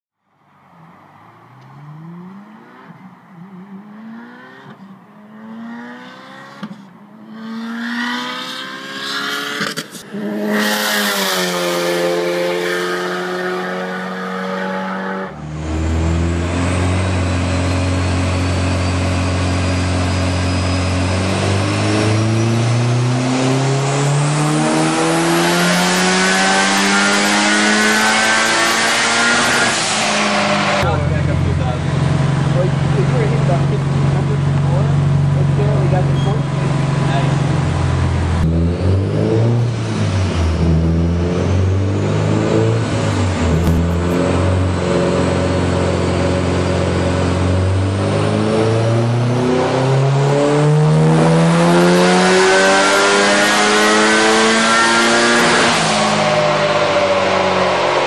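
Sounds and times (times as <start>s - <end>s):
car engine on a dyno: 0.2s - 58.0s
car engine accelerating: 0.4s - 58.0s.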